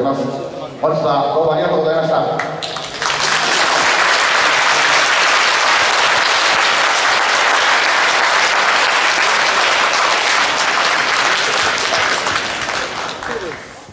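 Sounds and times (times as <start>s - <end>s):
audience applauding: 2.6s - 13.8s.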